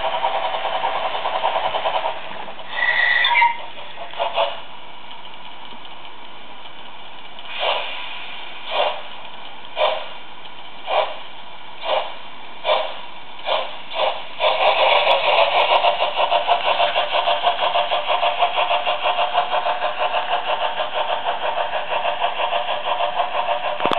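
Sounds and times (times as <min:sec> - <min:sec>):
model locomotive steam chuffs: 0:00.0 - 0:23.9.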